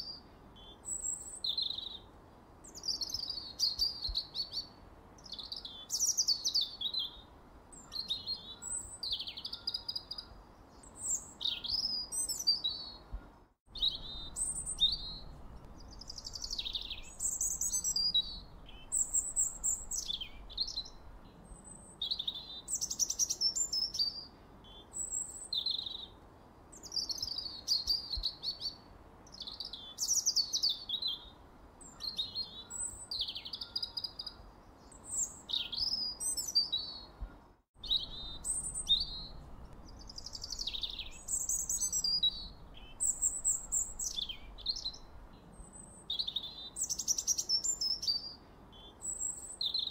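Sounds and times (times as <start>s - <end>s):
faint low hiss: 0.0s - 49.9s
songbird singing: 0.0s - 49.9s.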